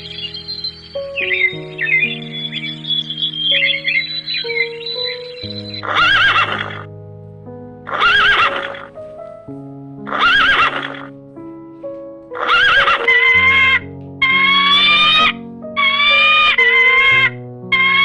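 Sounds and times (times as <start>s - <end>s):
background music: 0.0s - 18.0s
call with steadier tones: 0.0s - 18.0s.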